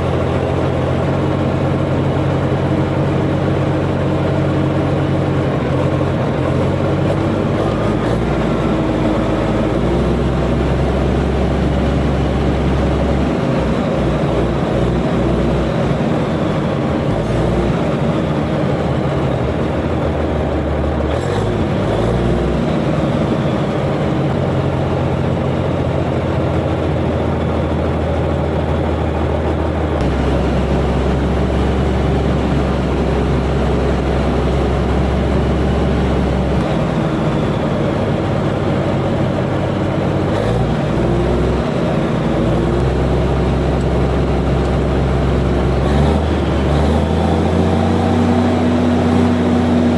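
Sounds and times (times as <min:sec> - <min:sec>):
bulldozer diesel engine drone: 0:00.0 - 0:49.9.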